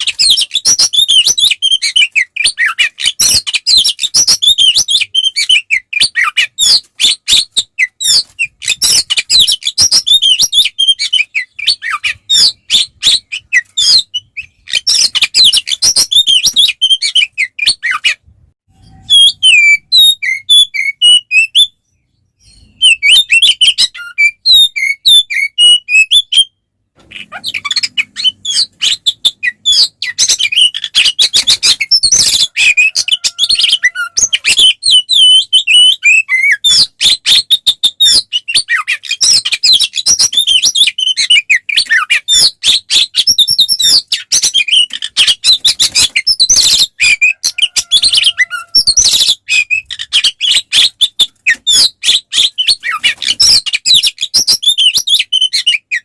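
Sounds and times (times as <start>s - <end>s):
bird singing chirps and whistles: 0.0s - 56.0s.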